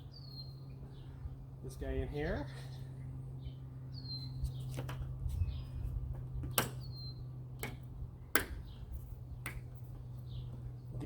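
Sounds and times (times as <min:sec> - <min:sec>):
bird chirping: 0:00.0 - 0:01.4, 0:02.6 - 0:04.8, 0:05.4 - 0:11.0.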